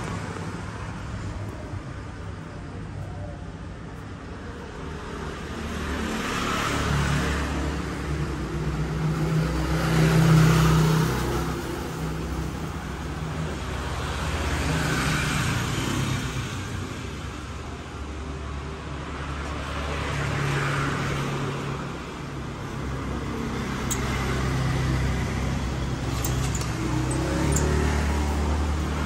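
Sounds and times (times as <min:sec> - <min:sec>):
motor vehicles passing by: 0:00.0 - 0:29.0.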